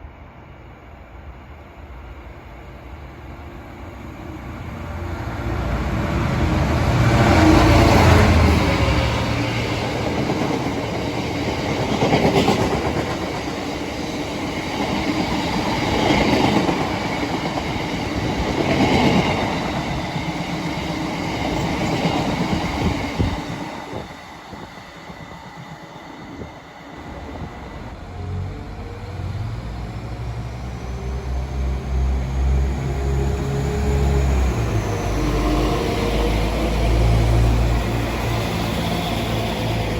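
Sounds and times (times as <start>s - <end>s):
train running past: 0.0s - 39.9s.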